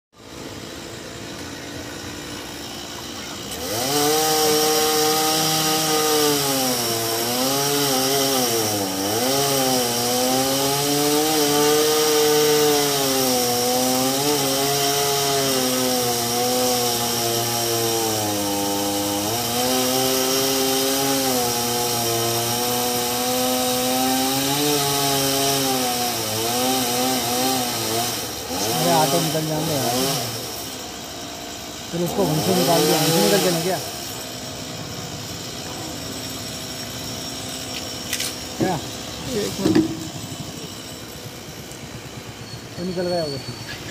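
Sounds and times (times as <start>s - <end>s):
chainsaw cutting wood: 0.2s - 43.9s.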